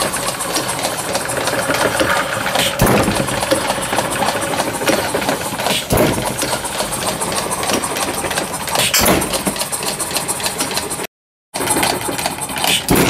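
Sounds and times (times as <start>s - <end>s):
mechanical clatter of mill: 0.0s - 13.0s
model engine popping: 0.0s - 13.0s.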